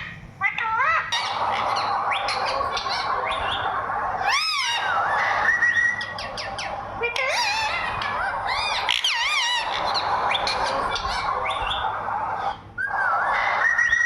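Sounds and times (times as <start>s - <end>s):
parrot squawking and whistling: 0.0s - 14.0s
steady background noise: 0.0s - 14.0s.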